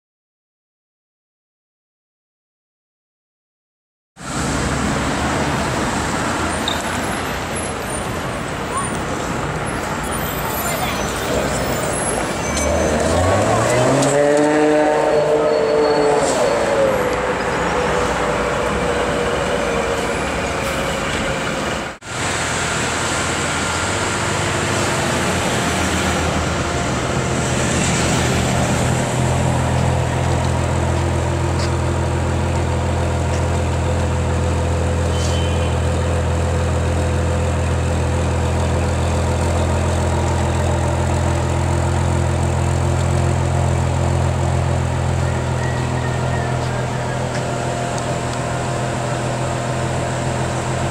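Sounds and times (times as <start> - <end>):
city traffic noise: 4.2 - 50.9.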